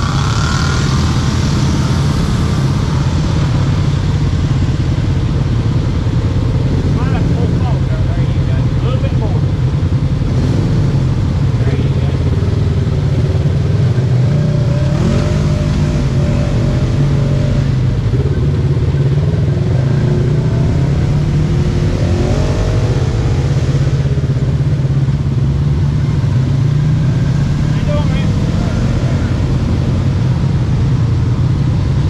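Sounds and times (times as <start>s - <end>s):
off-road vehicle engines droning: 0.0s - 32.0s.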